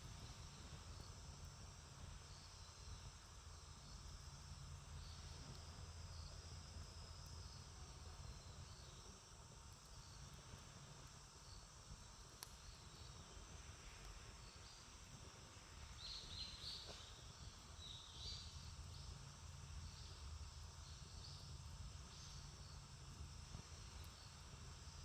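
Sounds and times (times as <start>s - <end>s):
insect buzzing: 0.0s - 25.0s.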